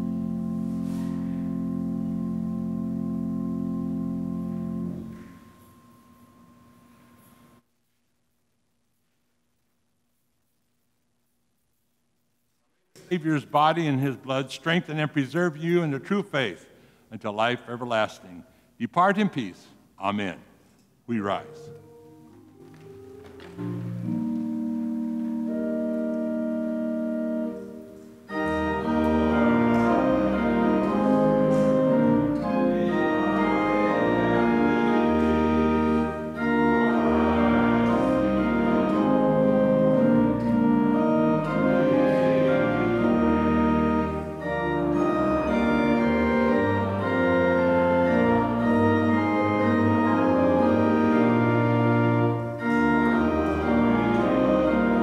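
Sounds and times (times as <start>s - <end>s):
church organ playing hymn: 0.0s - 7.6s, 13.0s - 55.0s.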